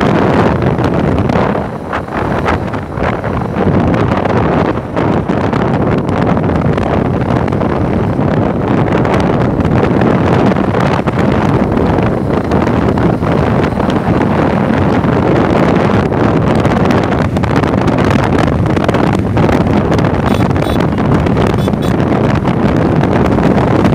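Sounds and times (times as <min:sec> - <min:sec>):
road noise: 0:00.0 - 0:23.9
wind rushing on microphone: 0:00.0 - 0:23.9.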